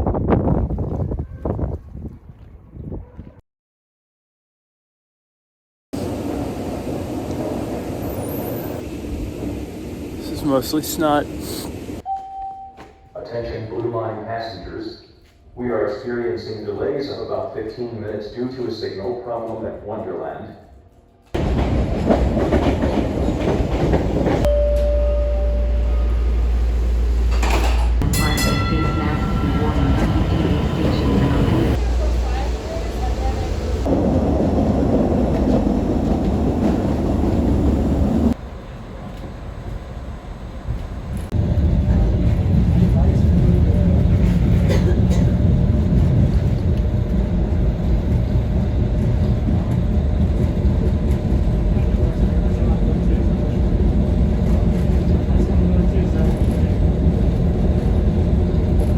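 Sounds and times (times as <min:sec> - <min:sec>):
subway train rumbling: 0:06.0 - 0:12.3, 0:13.2 - 0:58.9.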